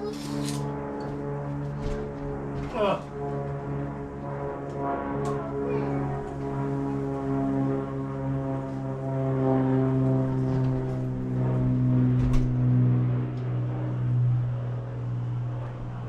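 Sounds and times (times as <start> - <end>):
low-pitched drone: 0.0 - 16.0.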